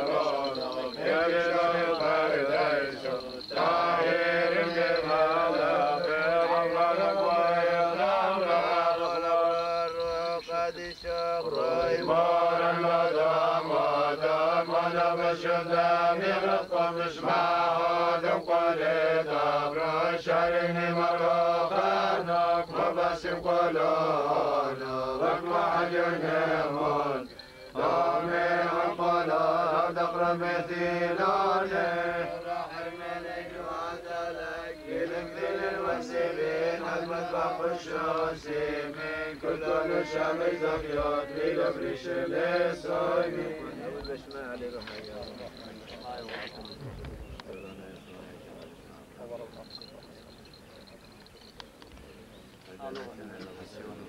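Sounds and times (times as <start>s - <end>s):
man singing liturgical chant: 0.0s - 46.8s.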